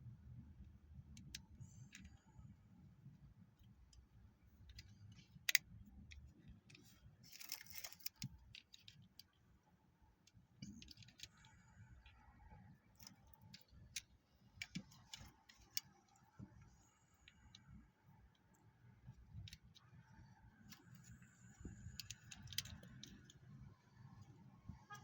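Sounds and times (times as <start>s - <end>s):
plastic parts clicking and tapping: 1.0s - 2.2s, 3.6s - 9.4s, 10.2s - 12.2s, 12.9s - 20.0s, 20.6s - 25.0s.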